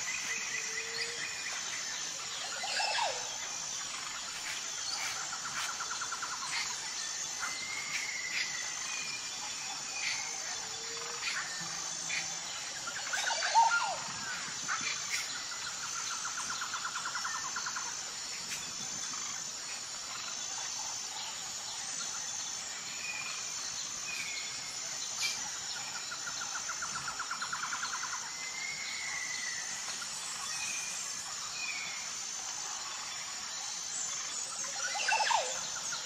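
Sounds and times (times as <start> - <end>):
insect chirping: 0.0 - 36.0.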